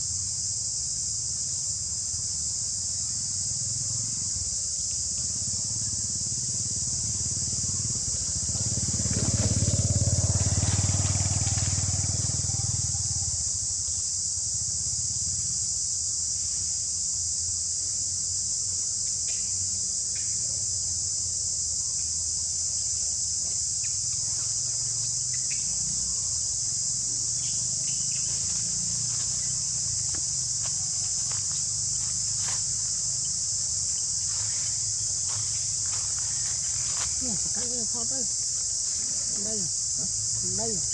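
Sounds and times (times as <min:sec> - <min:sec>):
shrill insect chorus: 0:00.0 - 0:40.9.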